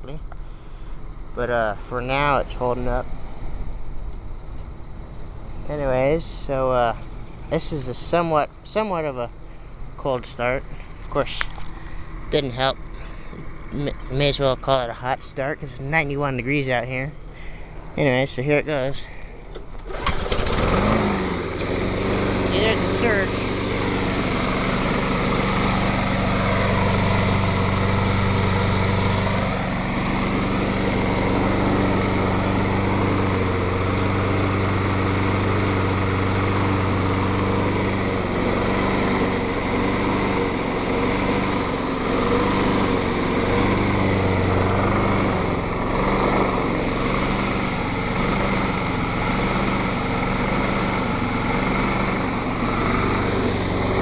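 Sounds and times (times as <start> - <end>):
lawn mower engine surging: 0.0 - 54.0.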